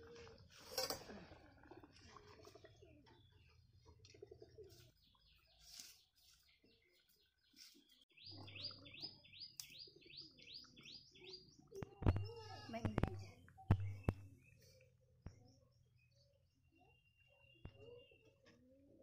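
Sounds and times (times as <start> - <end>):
birds chirping: 2.4 - 18.8.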